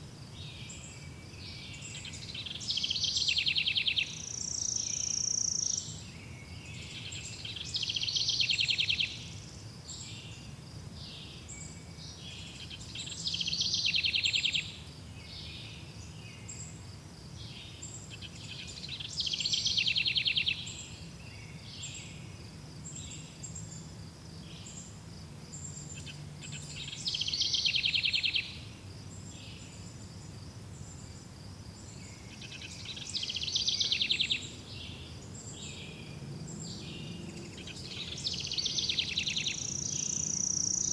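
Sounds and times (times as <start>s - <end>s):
songbird trill: 0.0s - 40.9s.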